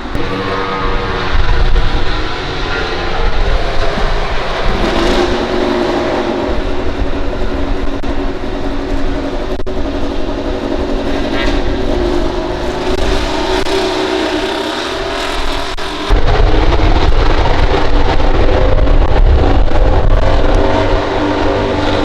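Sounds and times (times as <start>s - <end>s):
race motorcycle engines at high revs: 0.0s - 22.0s.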